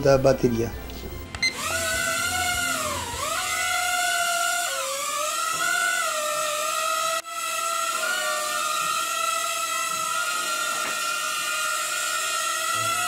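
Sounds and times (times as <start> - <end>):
toy drone propellers whining: 1.4 - 13.0.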